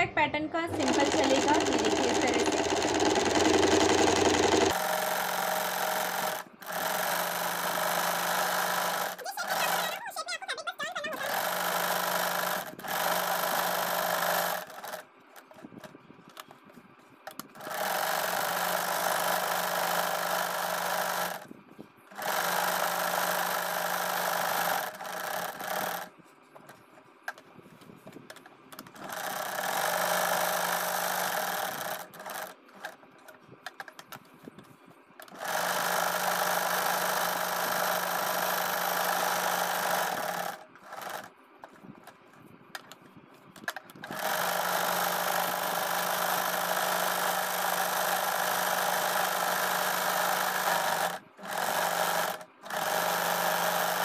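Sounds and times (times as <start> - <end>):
electric sewing machine stitching: 0.6 - 15.5, 17.4 - 21.5, 22.1 - 26.1, 28.8 - 33.0, 35.2 - 41.3, 44.0 - 54.0.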